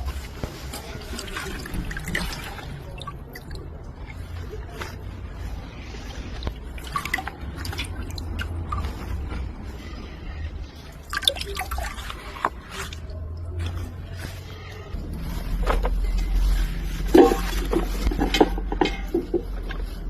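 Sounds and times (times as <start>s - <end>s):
low steady hum: 0.0s - 20.0s
wet bark squishing and crackling: 0.0s - 20.0s.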